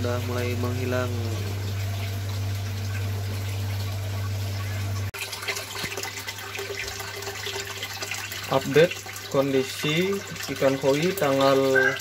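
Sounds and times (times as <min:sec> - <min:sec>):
aquarium aerator humming: 0:00.0 - 0:12.0
bubbling water: 0:00.0 - 0:12.0.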